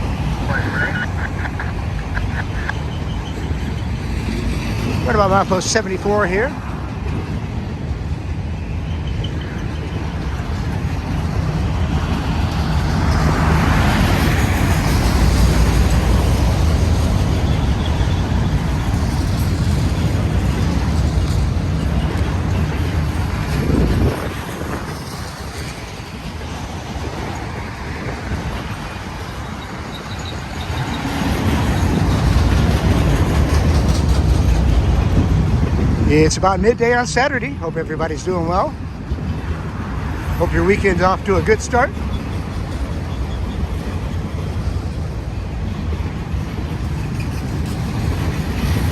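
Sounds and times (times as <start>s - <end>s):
freight train rumbling past: 0.0s - 48.9s.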